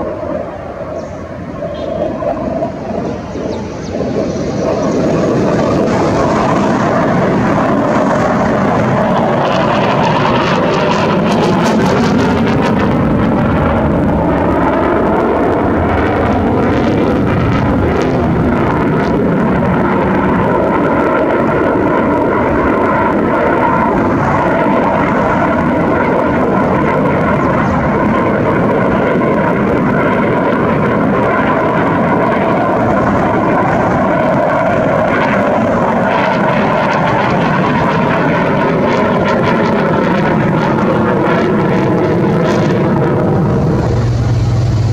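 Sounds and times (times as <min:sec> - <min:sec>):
jet flying overhead: 0:00.0 - 0:44.9.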